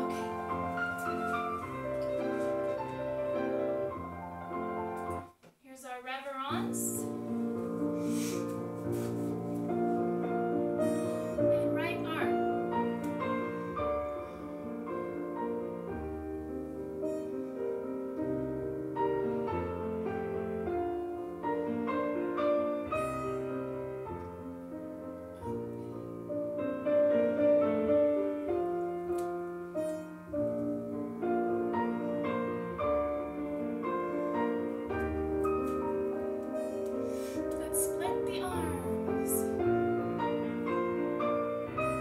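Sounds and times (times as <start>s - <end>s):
piano with long held chords: 0.0s - 5.4s, 6.5s - 42.0s.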